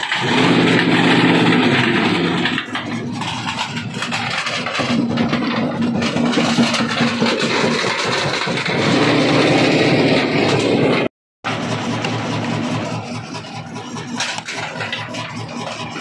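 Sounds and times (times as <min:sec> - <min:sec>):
stone crusher machine hum: 0:00.0 - 0:16.0.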